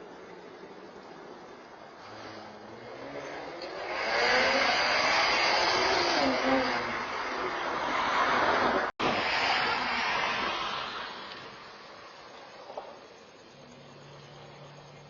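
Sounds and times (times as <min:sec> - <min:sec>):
car driving by: 0:02.0 - 0:15.0.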